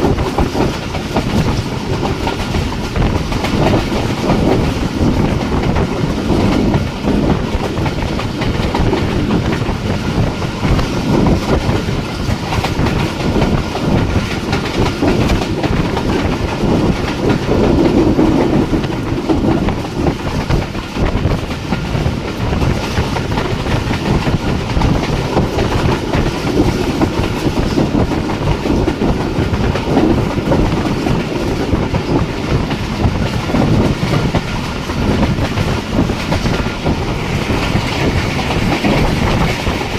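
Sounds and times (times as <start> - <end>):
passenger train running at speed: 0.0 - 39.9.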